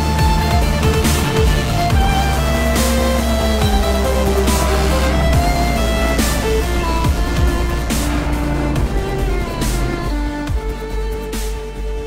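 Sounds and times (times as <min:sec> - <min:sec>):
electronic music with slow drum beat: 0:00.0 - 0:12.0.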